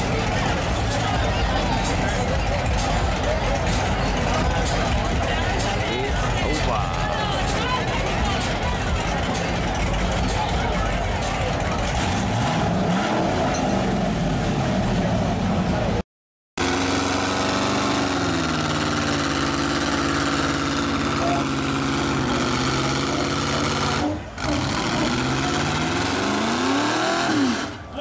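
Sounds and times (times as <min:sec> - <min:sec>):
crowd noise: 0:00.0 - 0:16.0, 0:16.6 - 0:28.0
heavy truck engines under load: 0:00.0 - 0:16.0, 0:16.6 - 0:28.0.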